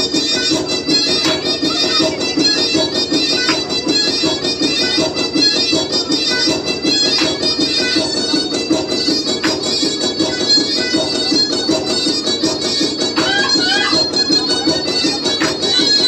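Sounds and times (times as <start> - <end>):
fast dance music with reed drone: 0.0 - 16.0.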